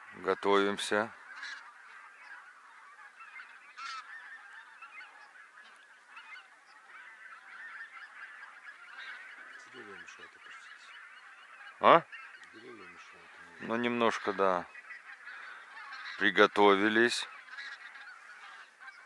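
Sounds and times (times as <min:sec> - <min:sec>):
geese calling: 0:00.0 - 0:19.0.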